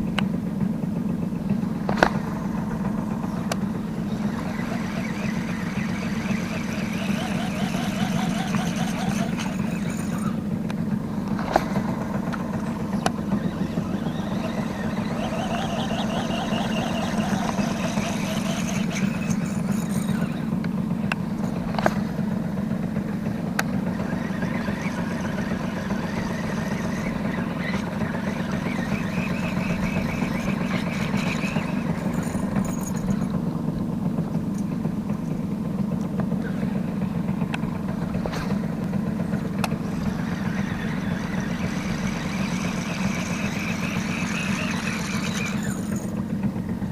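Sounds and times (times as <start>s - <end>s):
boat motor running: 0.0s - 46.9s.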